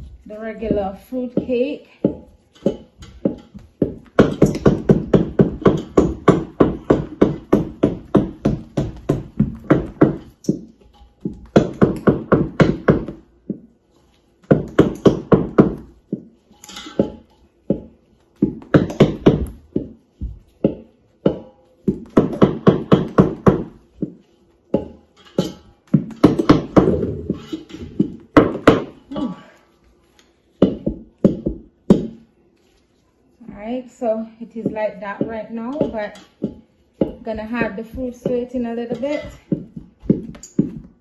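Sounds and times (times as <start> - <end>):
wooden spoon beating batter in metal bowl: 0.0 - 41.0.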